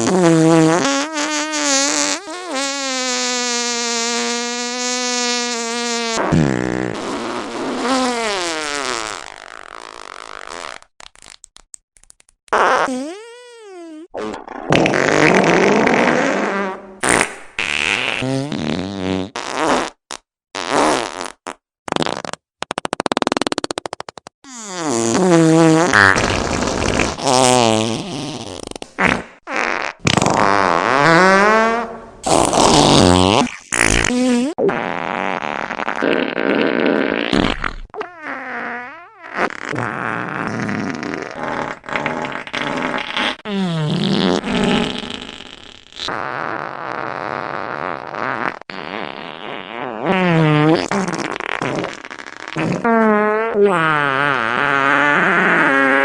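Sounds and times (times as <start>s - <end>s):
fart sound effects: 0.0s - 11.4s, 12.5s - 56.0s.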